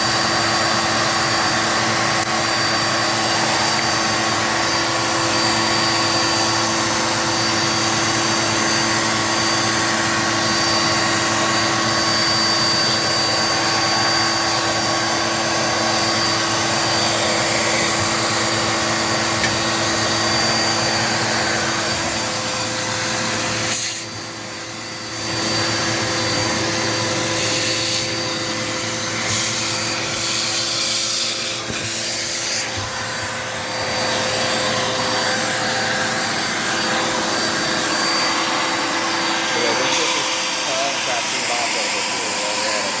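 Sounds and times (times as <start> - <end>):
vacuum cleaner whining hum: 0.0 - 43.0.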